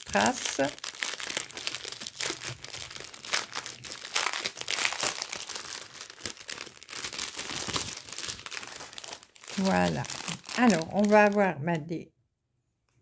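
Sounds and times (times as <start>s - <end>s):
plastic packets crinkling: 0.0s - 11.6s.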